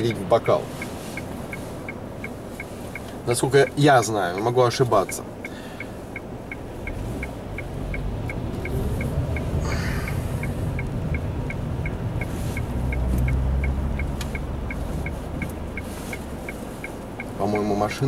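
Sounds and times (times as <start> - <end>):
engine and road hum: 0.0 - 18.0
turn signal ticking: 0.0 - 18.0.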